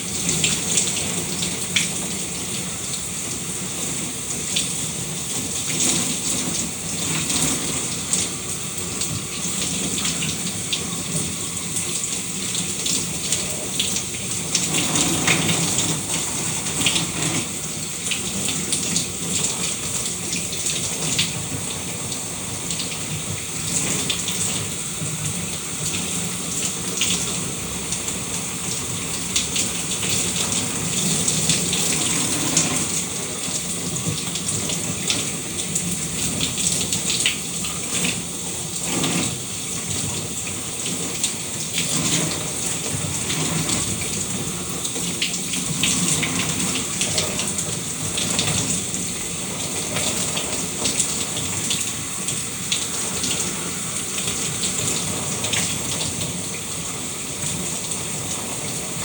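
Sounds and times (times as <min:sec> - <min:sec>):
shower water running: 0:00.0 - 0:59.0.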